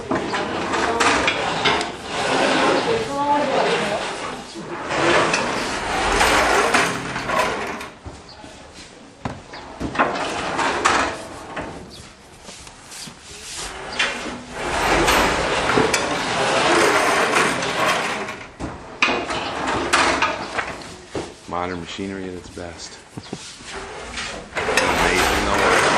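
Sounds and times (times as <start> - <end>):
machinery knocks and clatter: 0.0 - 8.2, 9.2 - 12.0, 13.7 - 21.3, 23.2 - 25.9
scraping and rubbing: 0.0 - 25.9.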